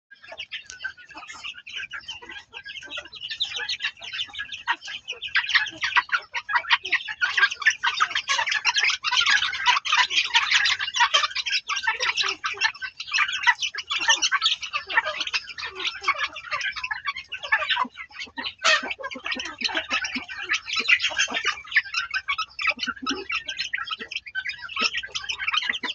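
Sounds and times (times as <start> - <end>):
many birds calling: 0.1 - 25.9.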